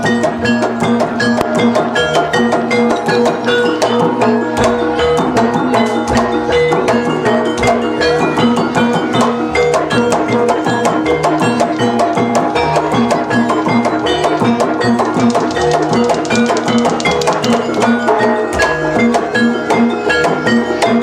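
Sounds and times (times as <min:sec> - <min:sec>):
percussion ensemble playing: 0:00.0 - 0:21.0
ringing gong and metallophone: 0:00.0 - 0:21.0.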